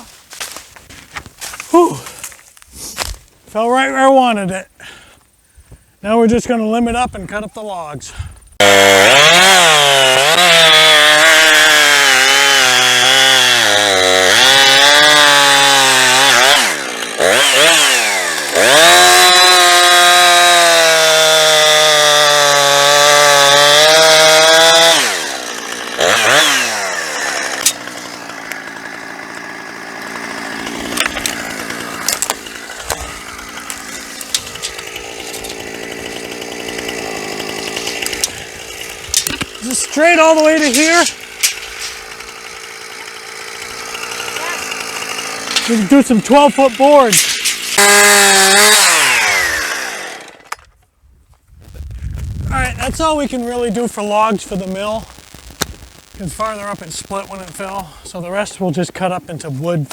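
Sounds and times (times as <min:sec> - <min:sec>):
chainsaw cutting wood: 0:08.6 - 0:50.8, 0:51.6 - 0:59.9.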